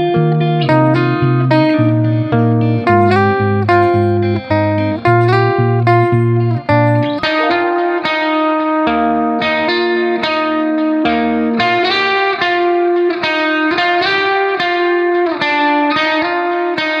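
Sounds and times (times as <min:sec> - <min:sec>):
plucked melody background music: 0:00.0 - 0:17.0.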